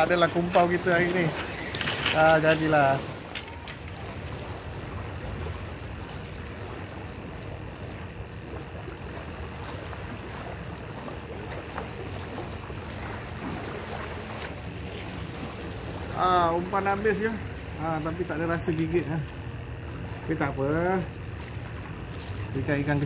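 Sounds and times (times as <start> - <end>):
sea waves washing over shore: 0.0 - 23.0.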